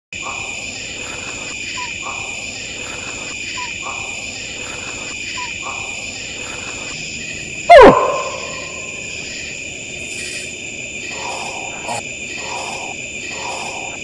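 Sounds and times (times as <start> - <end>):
night insects trilling: 0.2 - 14.0.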